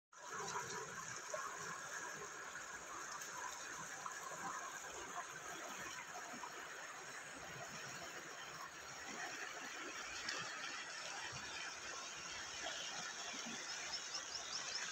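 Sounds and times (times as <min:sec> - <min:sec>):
river water flowing over rocks: 0:00.2 - 0:14.9.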